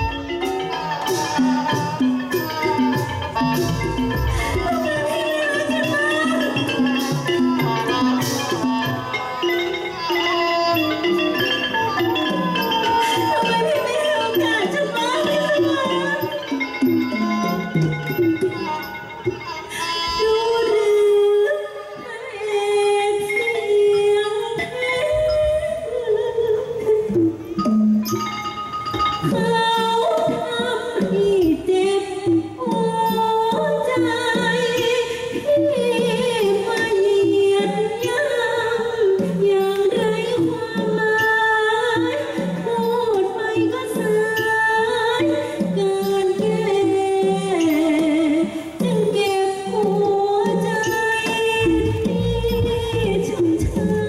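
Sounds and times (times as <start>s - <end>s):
mallet percussion accompaniment: 0.0s - 21.0s, 23.0s - 54.0s
woman singing into a microphone: 0.0s - 28.2s, 29.2s - 54.0s.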